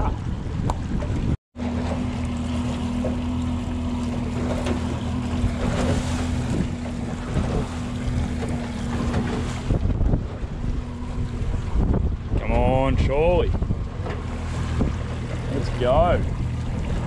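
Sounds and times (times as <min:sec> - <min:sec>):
wind buffeting microphone: 0:00.0 - 0:01.4, 0:04.3 - 0:17.0
outboard motor running: 0:00.0 - 0:17.0
water washing along hull: 0:00.0 - 0:17.0.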